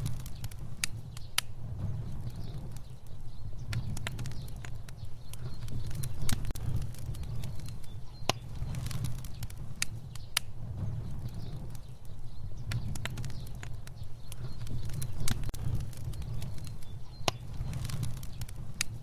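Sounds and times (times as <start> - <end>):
fire burning: 0.0 - 19.0
fire crackling and popping: 0.0 - 19.0.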